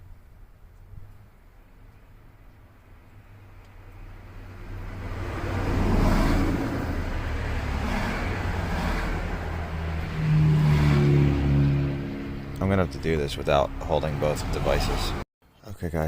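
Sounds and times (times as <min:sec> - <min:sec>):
vehicle engine rumble: 0:00.0 - 0:15.2.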